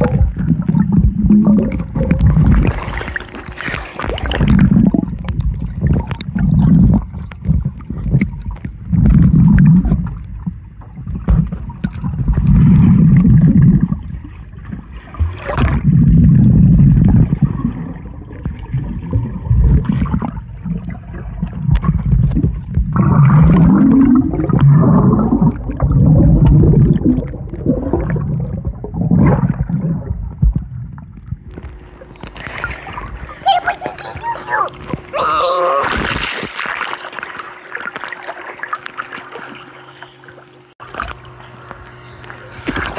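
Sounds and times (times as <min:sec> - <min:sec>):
muffled underwater rumbling and gurgling: 0:00.0 - 0:42.9.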